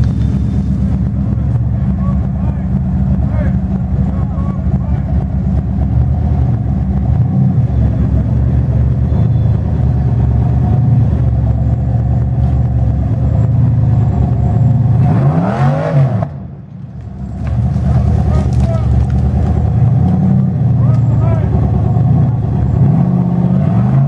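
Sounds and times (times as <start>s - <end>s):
tires spinning on rocks: 0.0s - 9.1s, 9.8s - 24.0s
buggy engine at high revs: 0.0s - 16.5s, 17.2s - 24.0s.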